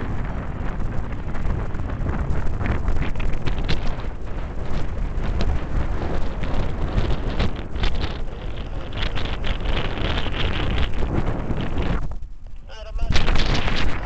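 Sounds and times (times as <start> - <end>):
gusty wind on microphone: 0.0 - 14.0
jet engines rumbling: 0.0 - 14.0.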